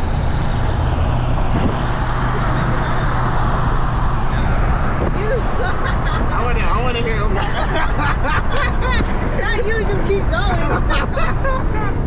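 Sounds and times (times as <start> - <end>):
car engine drone: 0.0 - 12.0
road and wind noise: 0.0 - 12.0.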